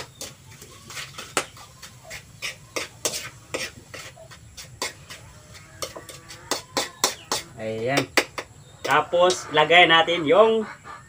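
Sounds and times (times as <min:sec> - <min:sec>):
spoon scraping a wok: 0:00.0 - 0:09.4.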